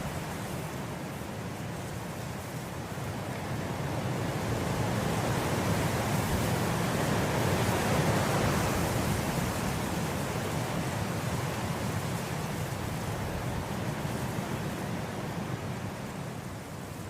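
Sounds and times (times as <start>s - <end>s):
wind blowing through grass: 0.0s - 17.0s.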